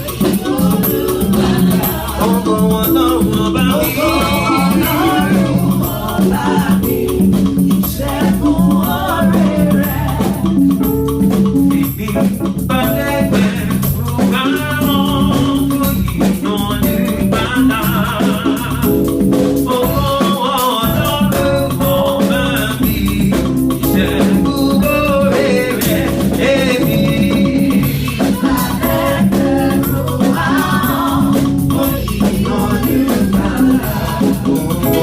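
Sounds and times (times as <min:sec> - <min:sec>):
voices singing over a band: 0:00.0 - 0:11.1, 0:11.7 - 0:35.0
drums: 0:00.0 - 0:35.0.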